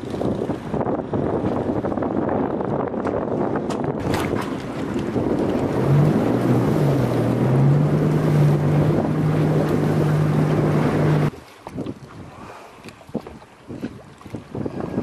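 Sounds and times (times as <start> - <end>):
outboard engine humming: 0.0 - 15.0
wind rumbling on microphone: 0.0 - 15.0.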